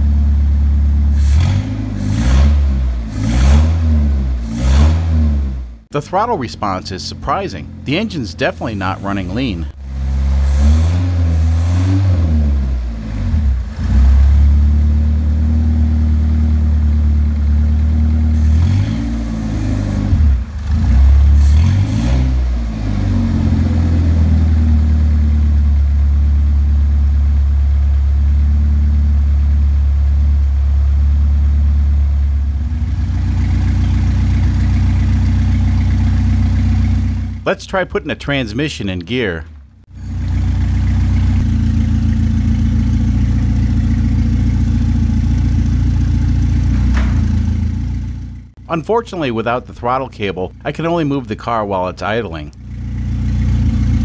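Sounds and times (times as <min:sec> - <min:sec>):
car engine revving and idling: 0:00.0 - 0:38.6, 0:39.6 - 0:54.0.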